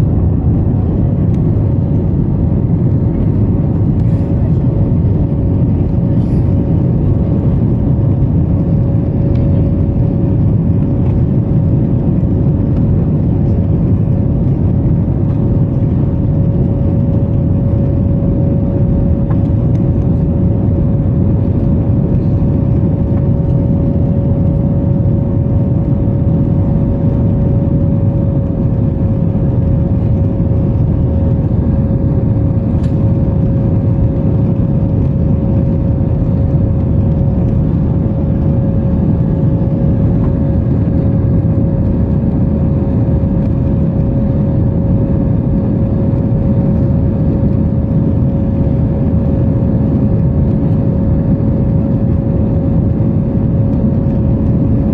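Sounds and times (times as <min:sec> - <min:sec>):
jet engines rumbling and whining: 0:00.0 - 0:54.9.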